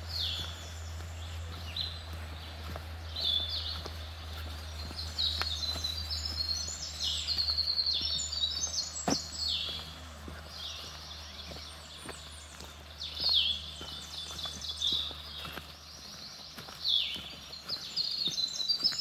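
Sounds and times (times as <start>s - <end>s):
footsteps on dirt path: 0.0s - 19.0s
songbirds chirping: 0.0s - 19.0s.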